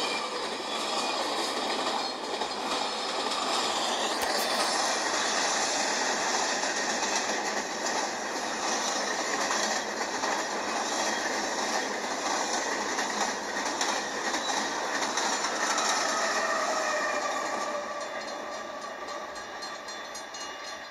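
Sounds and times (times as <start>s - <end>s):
freight train wheels clicking on rails: 0.0s - 20.9s.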